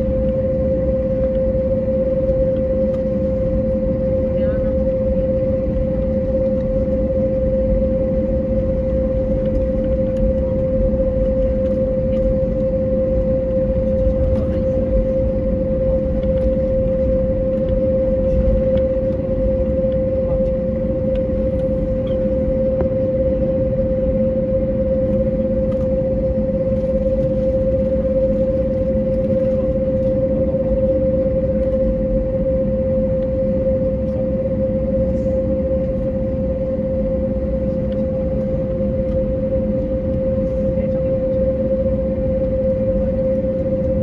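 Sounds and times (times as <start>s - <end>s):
aircraft cabin engine rumble: 0.0s - 44.0s
constant mid-pitched tone: 0.0s - 44.0s.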